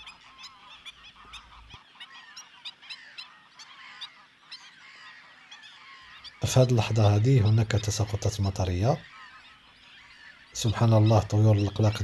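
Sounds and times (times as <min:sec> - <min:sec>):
water birds calling: 0:00.0 - 0:12.0.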